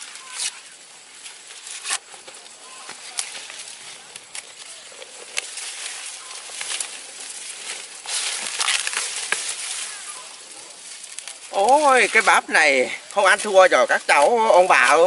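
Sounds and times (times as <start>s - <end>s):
dry husks crackling and tearing: 0.0s - 15.0s.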